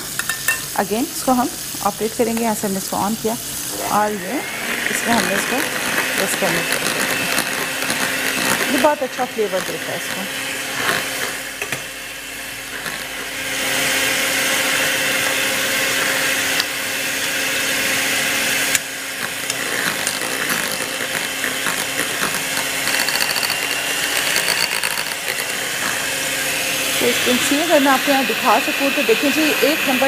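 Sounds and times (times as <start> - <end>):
electric hand mixer whirring: 1.2 - 30.0.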